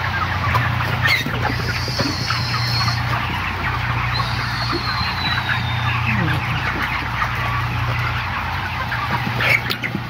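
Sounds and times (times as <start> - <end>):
chickens clucking and peeping: 0.0 - 10.0.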